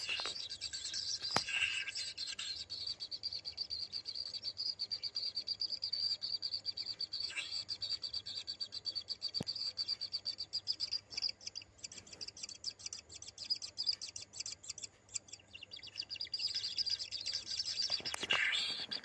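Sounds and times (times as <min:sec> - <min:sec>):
nestlings chittering: 0:00.0 - 0:19.0.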